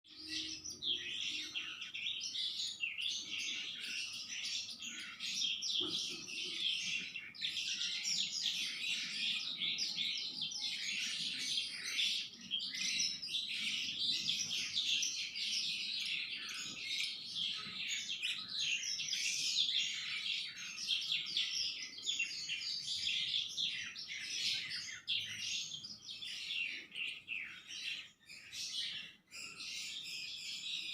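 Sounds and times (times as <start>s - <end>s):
songbird singing: 0.0s - 30.9s.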